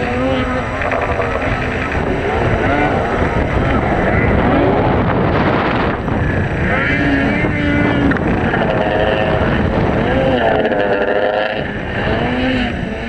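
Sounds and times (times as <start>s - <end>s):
snowmobile engines revving: 0.0s - 13.0s
wind on microphone: 0.0s - 13.0s.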